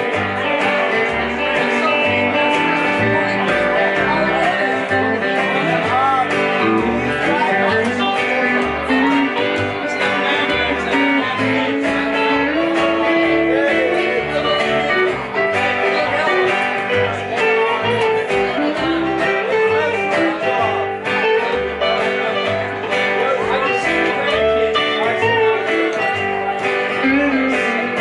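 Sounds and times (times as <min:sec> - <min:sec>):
acoustic guitar: 0:00.0 - 0:28.0
electric guitar: 0:00.0 - 0:28.0
upright bass plucking: 0:00.0 - 0:28.0.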